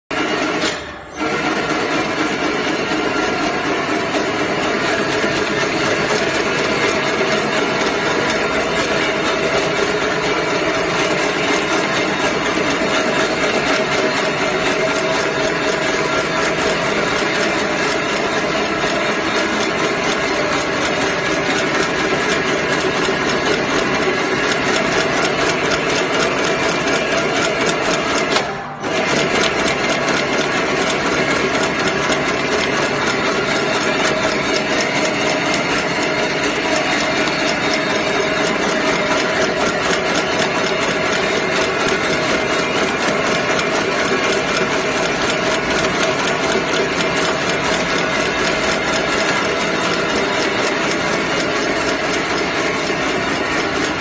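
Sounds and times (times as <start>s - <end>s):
machine clattering rapidly: 0.1s - 54.0s.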